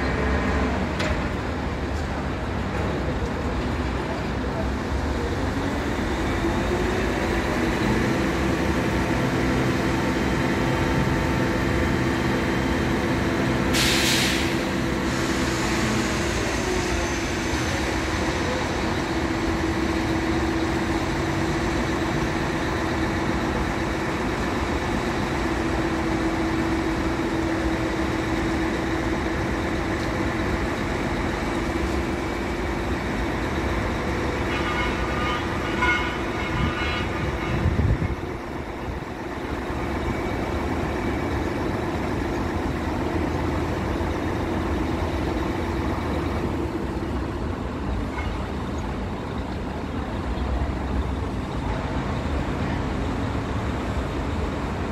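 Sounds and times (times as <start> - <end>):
heavy diesel engines running: 0.0 - 54.9.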